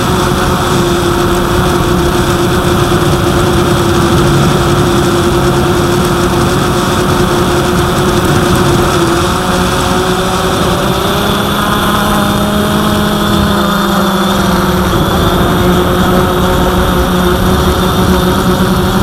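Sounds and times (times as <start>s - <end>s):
drone motors humming: 0.0s - 19.0s
wind rumbling on microphone: 0.0s - 19.0s.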